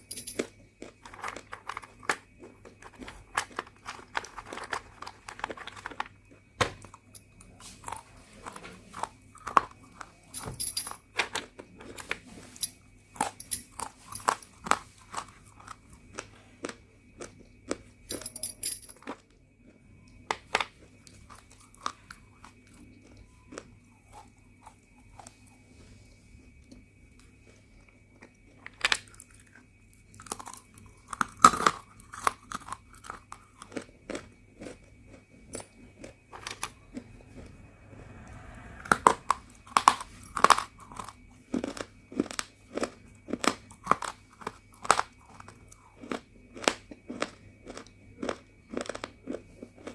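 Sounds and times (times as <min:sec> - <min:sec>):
chewing dry crunchy clay: 0:00.4 - 0:10.3, 0:13.1 - 0:17.9, 0:19.0 - 0:25.7, 0:26.5 - 0:49.9.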